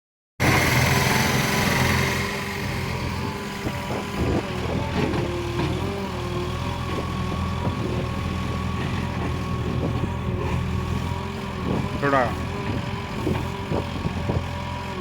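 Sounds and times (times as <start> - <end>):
diesel engine running: 0.4 - 15.0.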